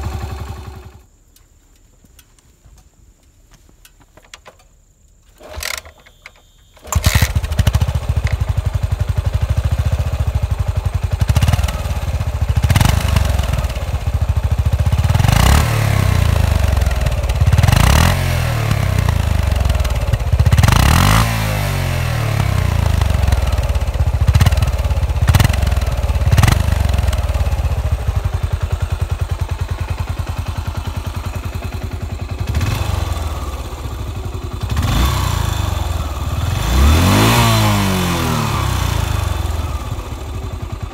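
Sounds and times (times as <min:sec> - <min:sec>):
motorcycle engine idling: 0:00.0 - 0:01.2, 0:05.4 - 0:40.9
motorcycle kick-start: 0:00.0 - 0:01.5, 0:03.8 - 0:40.9.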